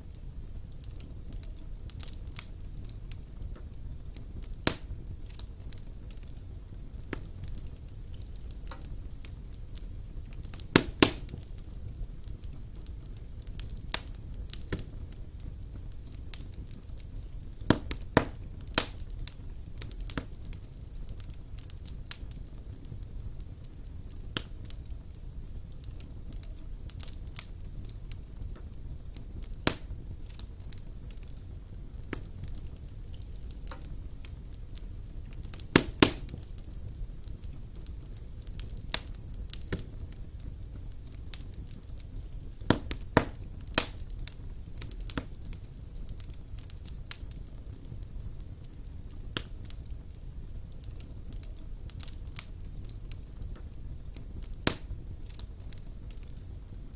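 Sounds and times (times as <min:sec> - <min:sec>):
fire crackling and popping: 0:00.0 - 0:56.9
rumble of fire flames: 0:00.0 - 0:56.9.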